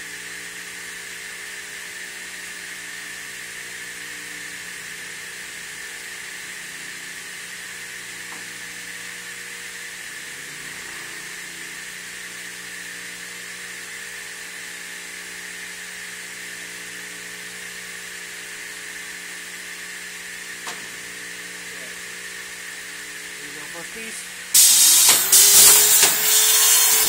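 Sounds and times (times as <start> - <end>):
trim saw motor hum with hiss: 0.0 - 27.0.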